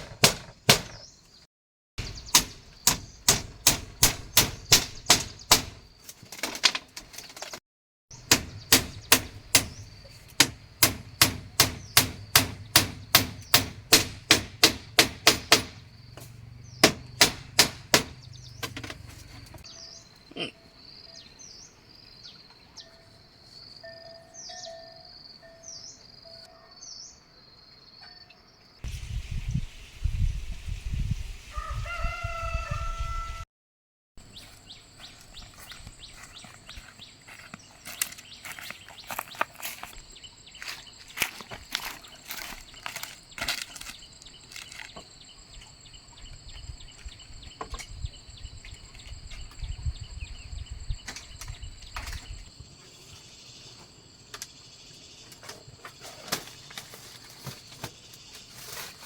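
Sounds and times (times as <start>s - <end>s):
birds chirping: 2.0s - 6.0s, 8.2s - 13.8s, 15.8s - 28.8s, 34.2s - 58.8s.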